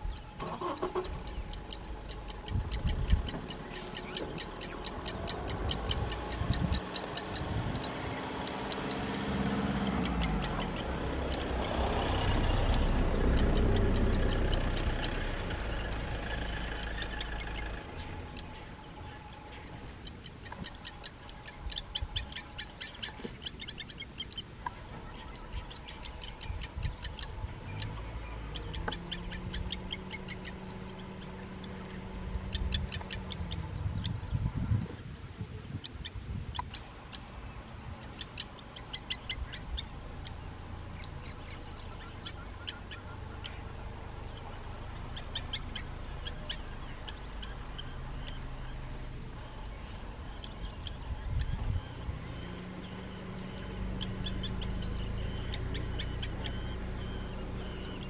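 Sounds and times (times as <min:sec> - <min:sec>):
lapwings metallic alarm calls: 0:00.0 - 0:34.4, 0:35.0 - 0:58.0
low steady hum: 0:00.0 - 0:58.0.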